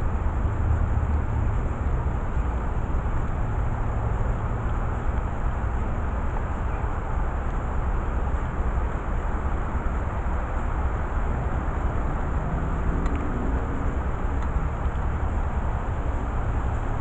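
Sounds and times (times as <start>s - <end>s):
faint engine hums: 0.0s - 17.0s
low rumble with hiss: 0.0s - 17.0s.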